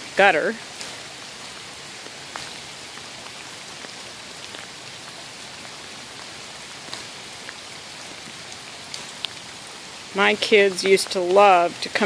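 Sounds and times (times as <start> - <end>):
raindrops landing close: 0.0 - 12.0
steady rain hiss: 0.0 - 12.0.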